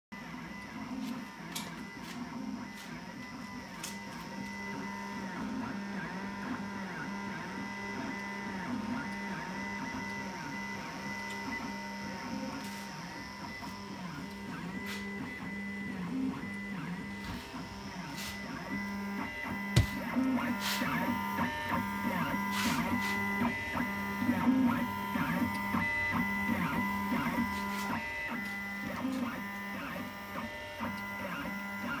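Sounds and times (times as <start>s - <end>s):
steady machine hum: 0.2s - 31.2s.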